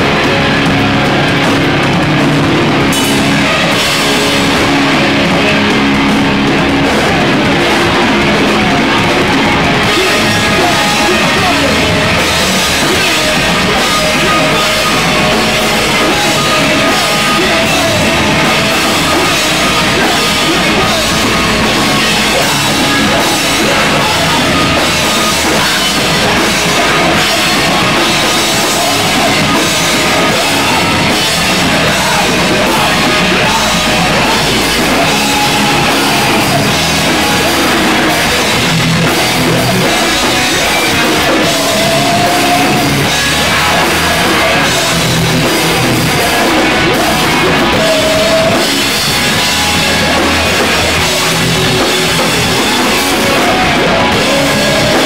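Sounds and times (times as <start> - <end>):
drum kit pounding: 0.0 - 55.0
rock band playing punk: 0.0 - 55.0.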